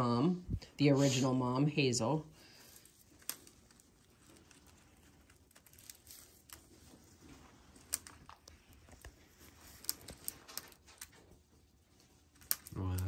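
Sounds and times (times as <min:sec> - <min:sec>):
small clicks and crackles: 0:02.4 - 0:13.0.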